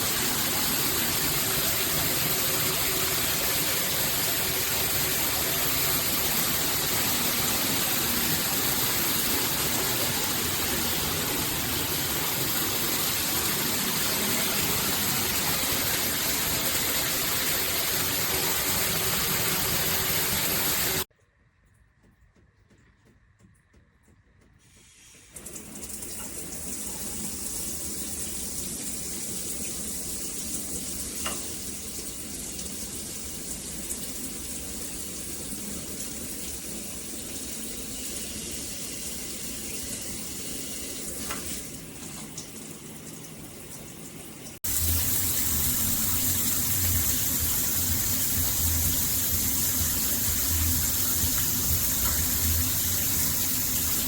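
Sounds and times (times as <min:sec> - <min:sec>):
shower head spraying water: 0:00.0 - 0:21.1, 0:24.7 - 0:41.8, 0:44.6 - 0:54.0.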